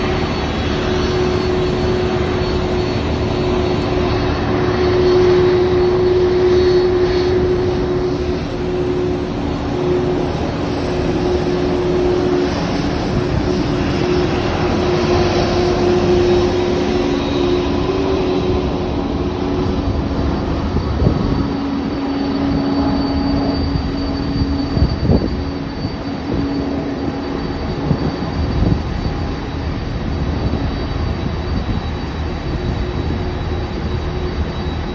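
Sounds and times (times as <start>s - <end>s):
jet engines idling: 0.0s - 34.9s.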